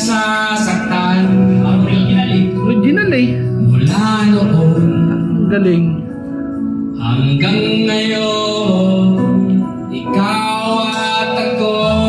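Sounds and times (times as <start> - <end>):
karaoke backing track: 0.0 - 12.0
man singing karaoke: 0.0 - 12.0.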